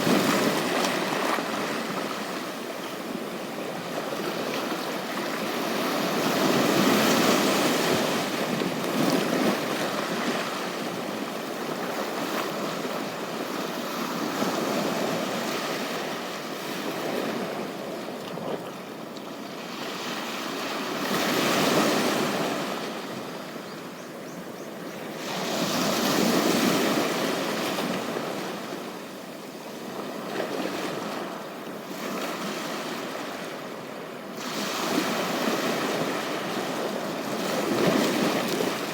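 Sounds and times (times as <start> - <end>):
ocean waves washing onto beach: 0.0 - 23.6, 25.1 - 38.9.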